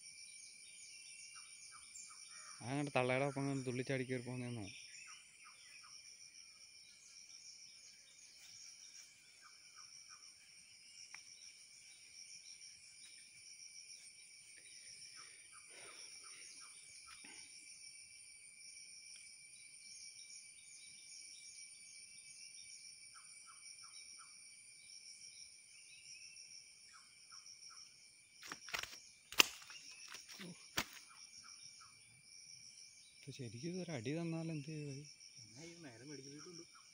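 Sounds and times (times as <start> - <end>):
insect chirps: 0.0 - 36.9
insect chorus drone: 0.0 - 36.9.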